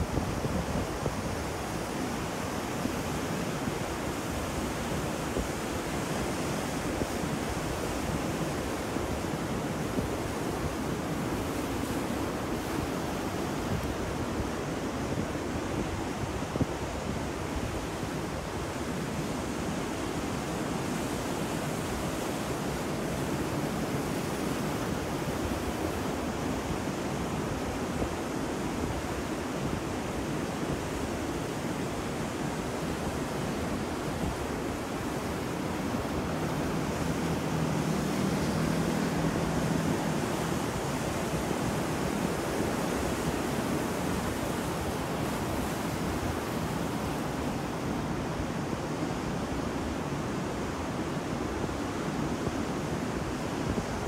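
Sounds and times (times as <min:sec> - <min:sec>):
ocean surf breaking: 0:00.0 - 0:52.2.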